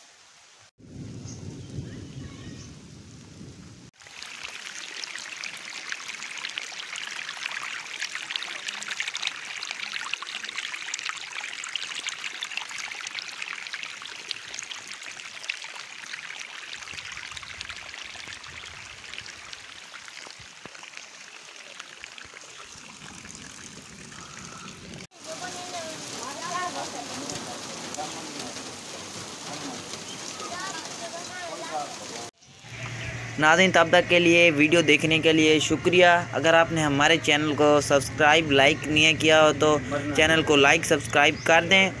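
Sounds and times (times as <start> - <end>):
heavy rain splashing: 0.0 - 42.0
rainwater running and pouring: 0.0 - 42.0.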